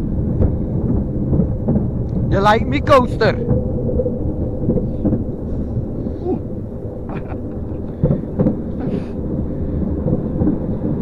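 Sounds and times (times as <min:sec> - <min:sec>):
roller coaster wheels rumbling: 0:00.0 - 0:11.0
steady hum: 0:00.0 - 0:11.0
wind buffeting microphone: 0:00.0 - 0:11.0.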